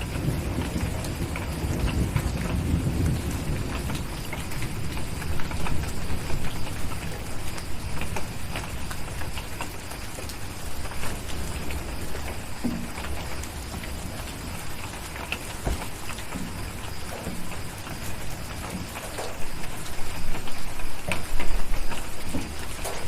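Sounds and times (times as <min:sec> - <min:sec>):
low rumble of thunder: 0:00.0 - 0:23.0
steady rain: 0:00.0 - 0:23.0
wood fire crackling: 0:00.0 - 0:23.0.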